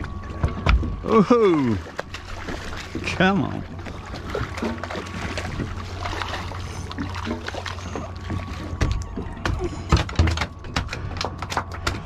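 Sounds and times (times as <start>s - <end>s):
water washing against boat: 0.0s - 12.0s.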